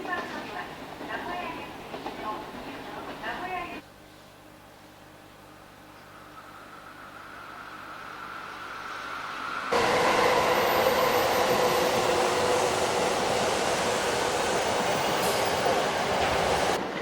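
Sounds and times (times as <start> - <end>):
train running on rails: 0.0 - 3.8, 6.4 - 17.0.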